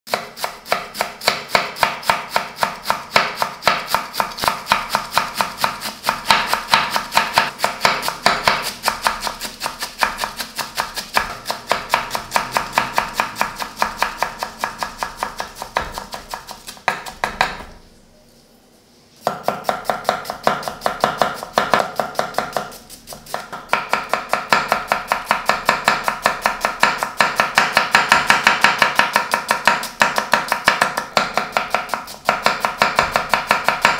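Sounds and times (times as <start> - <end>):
knife chopping on wooden board: 0.1 - 17.8, 19.2 - 33.9.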